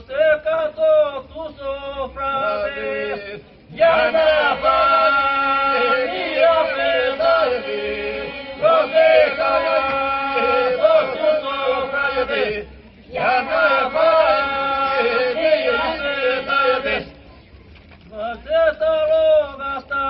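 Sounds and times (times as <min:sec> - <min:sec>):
voices singing a chant-like melody: 0:00.2 - 0:17.3.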